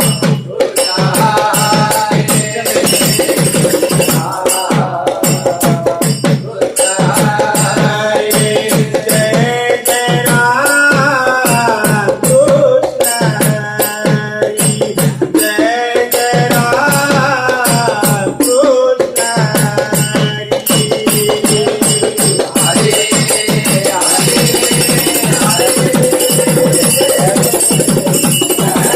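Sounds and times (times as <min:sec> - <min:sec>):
hand drum beats: 0:00.0 - 0:28.9
jingling percussion: 0:00.0 - 0:28.9.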